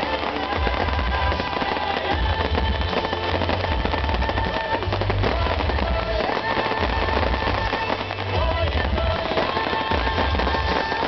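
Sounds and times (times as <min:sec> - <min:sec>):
fireworks crackling and popping: 0:00.0 - 0:11.0
music playing: 0:00.0 - 0:11.0.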